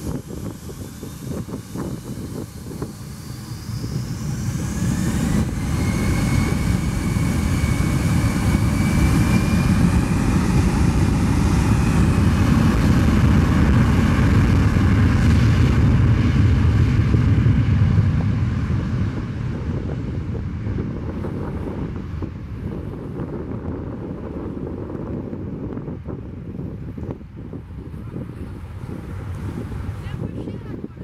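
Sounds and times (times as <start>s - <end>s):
jet engines spooling up: 0.0s - 26.2s.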